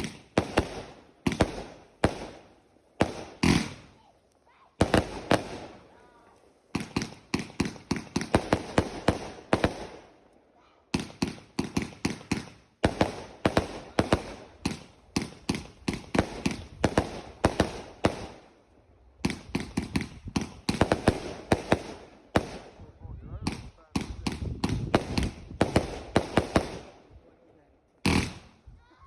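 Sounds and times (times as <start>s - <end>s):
fireworks banging: 0.0s - 4.0s, 4.7s - 10.3s, 10.9s - 18.6s, 19.2s - 27.1s, 28.0s - 28.6s.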